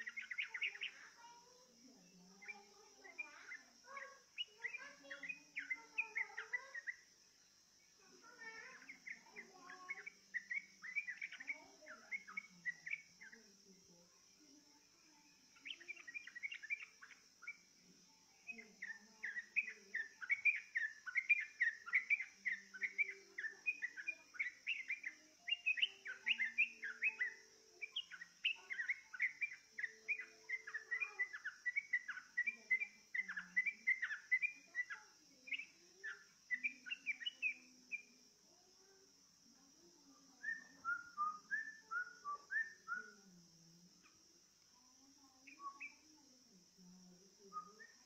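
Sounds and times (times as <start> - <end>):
bird chirping song: 0.0 - 48.0.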